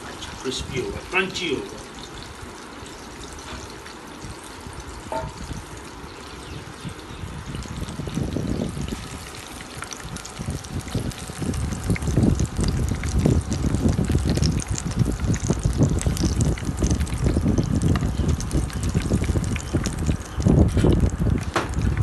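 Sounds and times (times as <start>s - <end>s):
onion rings frying in hot oil: 0.0s - 22.0s.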